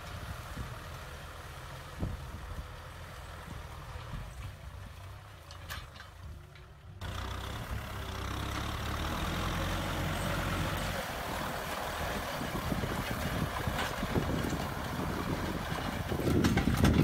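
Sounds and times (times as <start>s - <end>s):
harrow discs working soil: 0.0s - 17.0s
tractor diesel engine under load: 0.0s - 17.0s.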